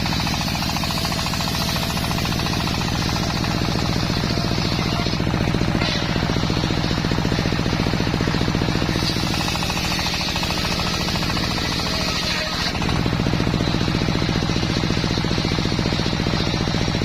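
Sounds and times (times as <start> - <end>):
sawmill engine chugging: 0.0 - 17.0.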